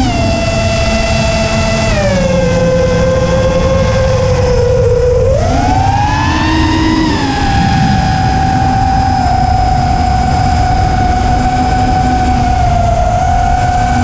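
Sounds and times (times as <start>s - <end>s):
drone motors whining: 0.0s - 14.0s
wind rumble on microphone: 0.0s - 14.0s.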